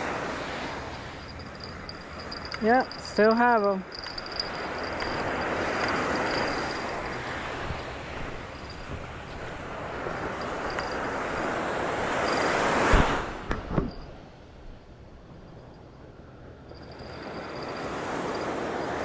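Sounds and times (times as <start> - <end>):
waves breaking and washing in: 0.0 - 19.0.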